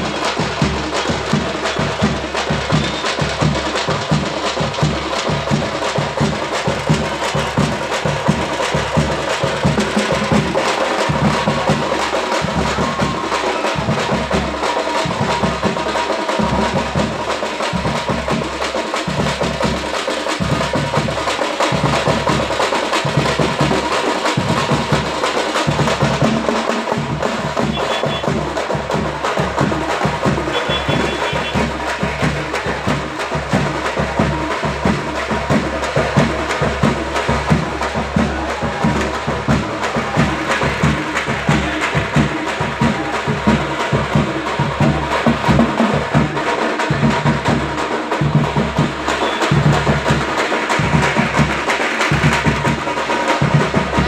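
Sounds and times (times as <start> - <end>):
drum band playing fast beat: 0.0 - 54.0.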